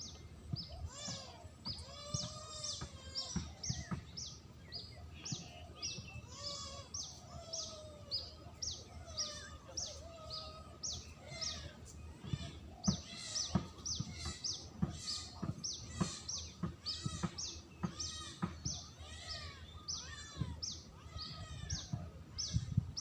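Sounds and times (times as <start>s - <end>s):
small bird high chirps: 0.0s - 23.0s.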